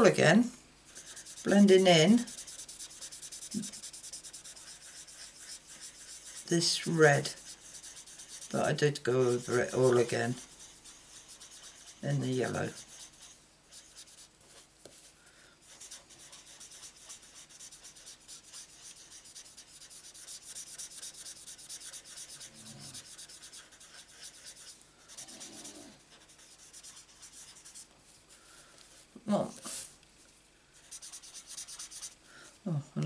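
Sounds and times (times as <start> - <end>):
marker scratching on card: 0.9 - 15.0, 15.6 - 27.9, 30.8 - 32.2.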